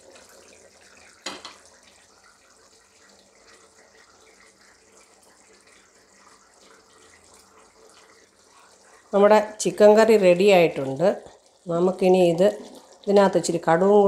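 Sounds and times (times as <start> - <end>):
curry bubbling in pot: 0.0 - 14.0.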